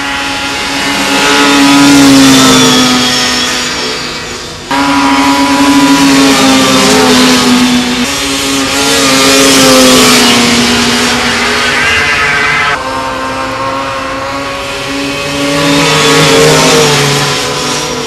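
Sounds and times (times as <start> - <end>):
snowmobile engines whining: 0.0 - 18.0.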